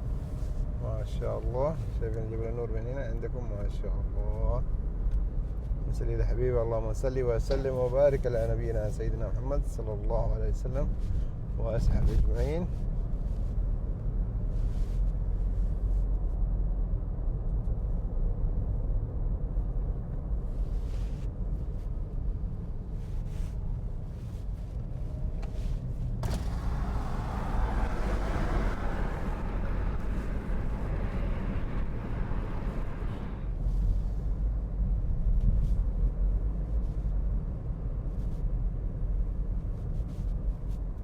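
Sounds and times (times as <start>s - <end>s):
car driving rumble from inside: 0.0s - 41.0s.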